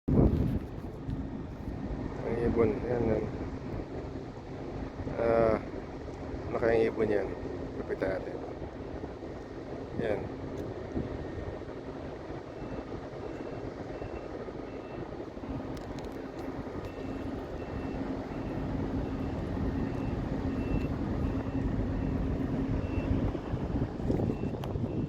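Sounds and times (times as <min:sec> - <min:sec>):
boat engine humming: 0:00.2 - 0:25.0.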